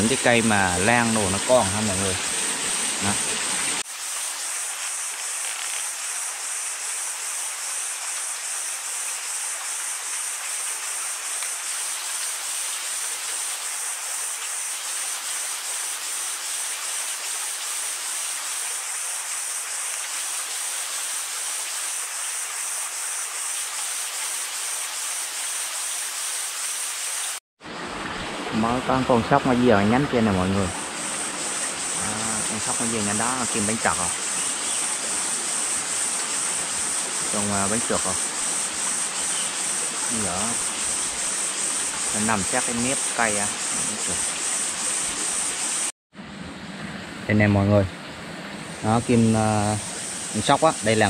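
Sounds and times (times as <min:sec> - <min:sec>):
mountain stream rushing: 0:00.0 - 0:45.9, 0:46.8 - 0:51.0.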